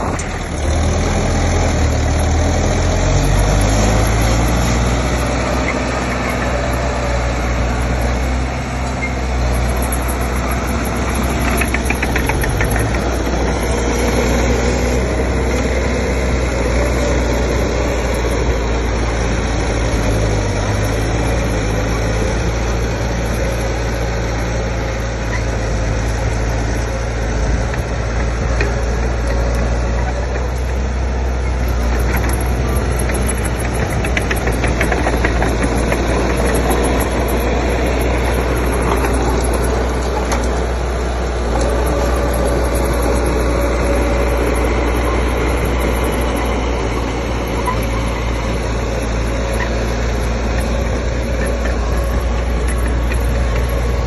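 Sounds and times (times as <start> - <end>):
diesel engine deep hum: 0.0 - 54.0.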